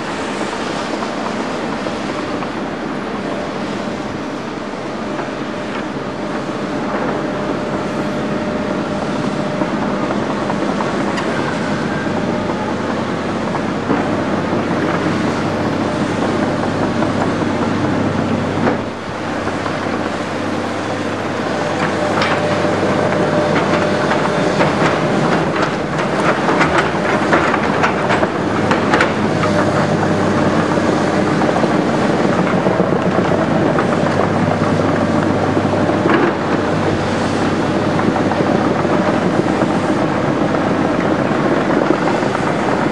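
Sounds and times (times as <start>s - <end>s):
diesel engines running with whine: 0.0s - 42.9s.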